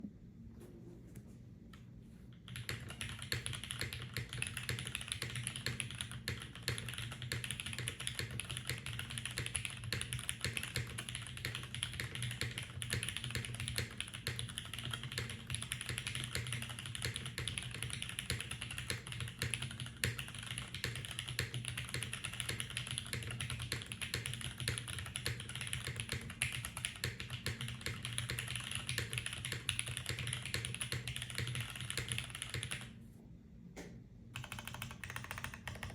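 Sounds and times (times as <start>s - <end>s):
fast typing on mechanical keyboard: 2.4s - 32.9s, 34.4s - 35.9s.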